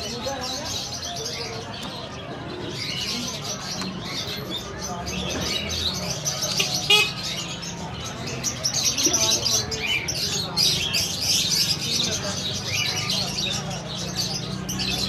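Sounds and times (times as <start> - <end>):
caged small birds chirping: 0.0 - 15.0.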